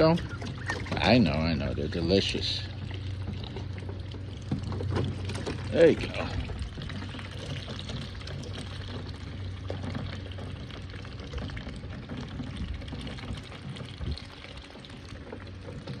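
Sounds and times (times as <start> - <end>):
water pouring and splashing: 0.0 - 16.0.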